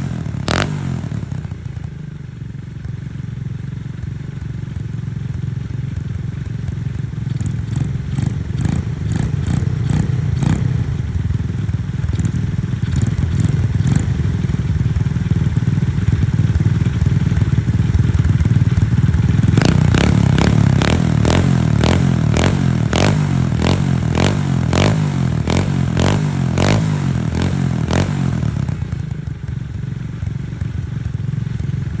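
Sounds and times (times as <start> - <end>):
small motorbike engine running: 0.0 - 32.0.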